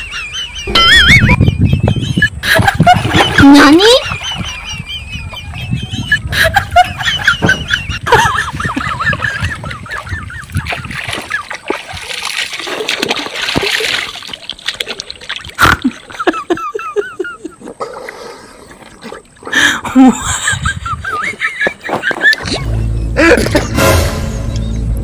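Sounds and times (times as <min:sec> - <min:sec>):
water splashing and sloshing: 0:02.2 - 0:24.1.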